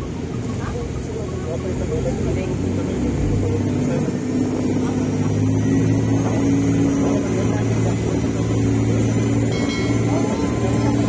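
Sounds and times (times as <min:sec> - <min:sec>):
boat wake churning: 0:00.0 - 0:11.0
motorboat engine droning: 0:00.0 - 0:11.0.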